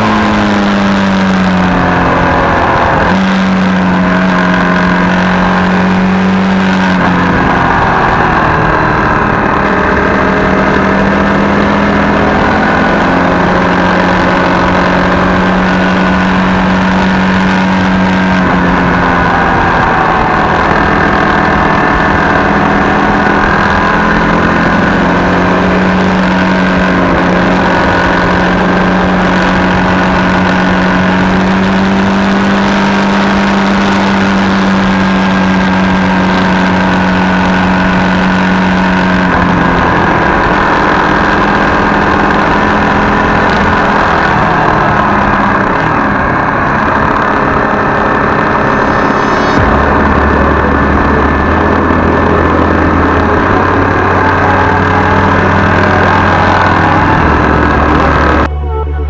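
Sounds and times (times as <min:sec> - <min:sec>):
constant rushing noise: 0:00.0 - 0:59.0
motorcycle engine running: 0:00.0 - 0:59.0.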